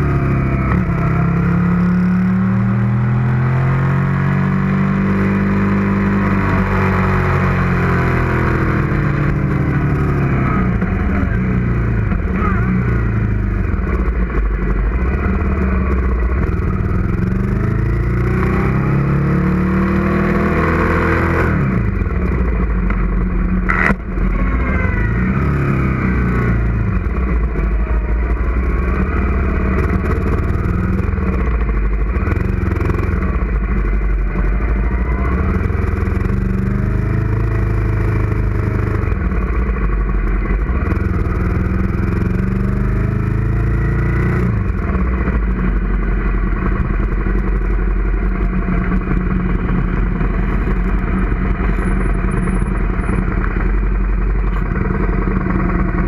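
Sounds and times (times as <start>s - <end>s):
motorcycle engine revving and idling: 0.0s - 56.0s.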